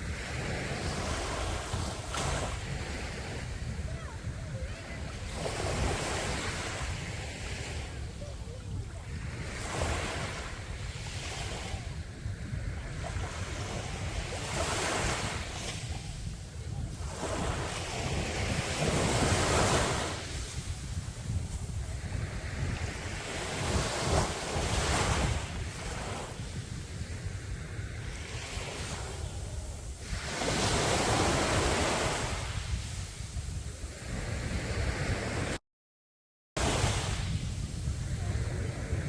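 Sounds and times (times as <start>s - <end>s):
sea waves breaking on beach: 0.0s - 35.6s, 36.6s - 39.0s
wind rumble on microphone: 0.0s - 35.6s, 36.6s - 39.0s.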